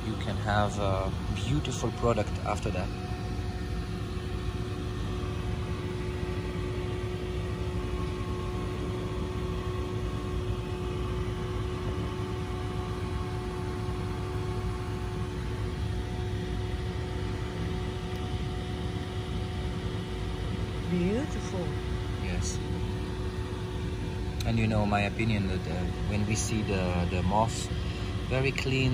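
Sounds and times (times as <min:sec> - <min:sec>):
machine humming: 0:00.0 - 0:28.9.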